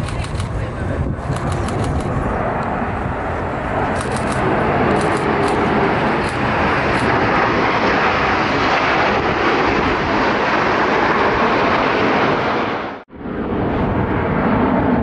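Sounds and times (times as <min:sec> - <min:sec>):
jet engines flying past: 0:00.0 - 0:15.0.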